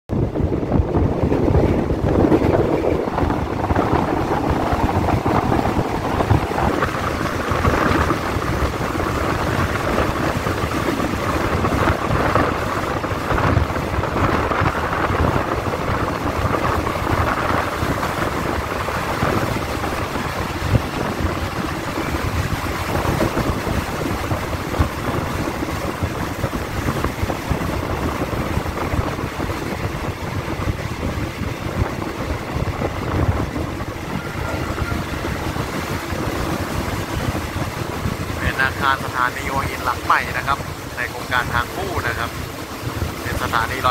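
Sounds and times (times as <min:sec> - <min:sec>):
train running noise: 0:00.1 - 0:43.9
wind on microphone: 0:00.1 - 0:43.9.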